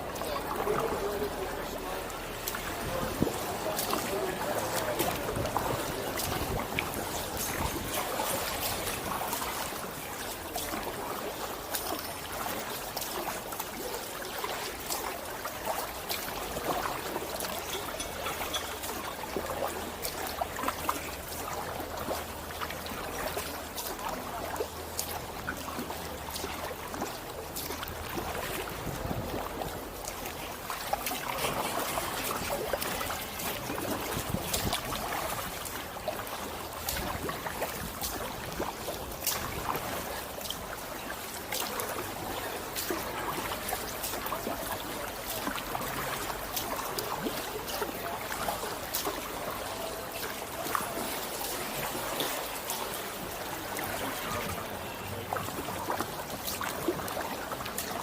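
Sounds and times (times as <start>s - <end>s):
kayak paddle splashing water: 0.0s - 58.0s.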